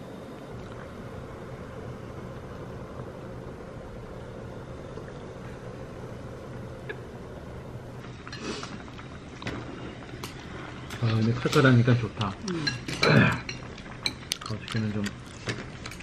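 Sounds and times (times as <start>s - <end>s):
broth boiling: 0.0s - 16.0s
low hum: 0.0s - 16.0s.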